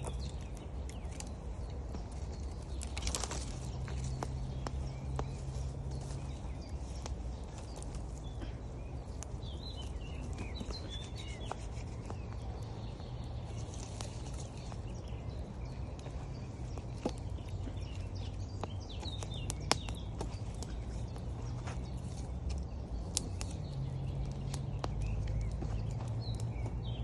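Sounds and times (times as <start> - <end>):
bird chirping: 0.0 - 27.0
campfire crackling and popping: 0.0 - 27.0.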